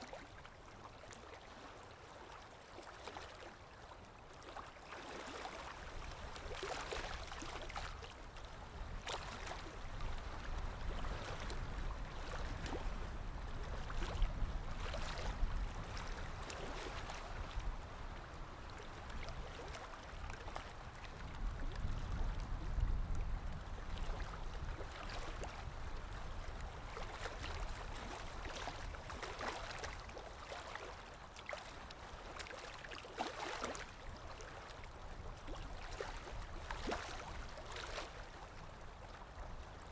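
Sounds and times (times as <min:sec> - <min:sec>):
stream water gurgling: 0:00.0 - 0:39.9.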